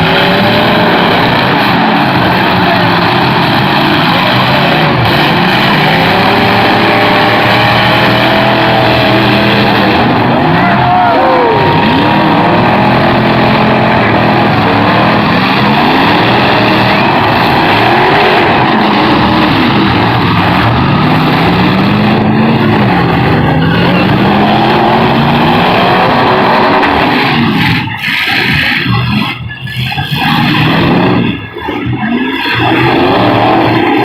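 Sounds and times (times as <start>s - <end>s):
truck engines revving hard: 0.0s - 34.0s.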